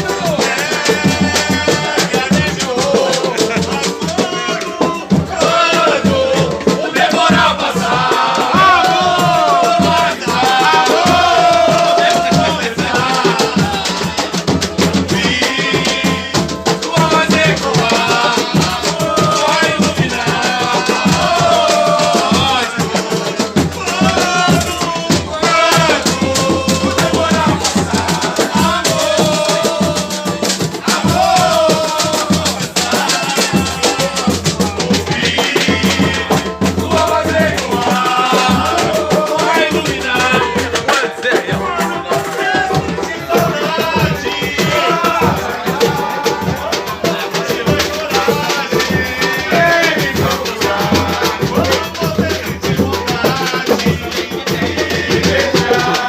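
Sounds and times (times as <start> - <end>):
loud music with drums and shaker: 0.0 - 56.0.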